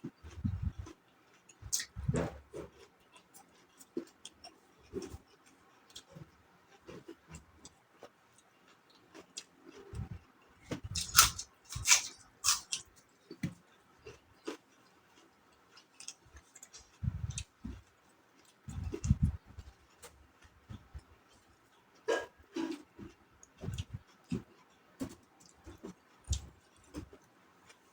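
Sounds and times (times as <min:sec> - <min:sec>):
wet chewing and crunching: 0:00.0 - 0:27.9.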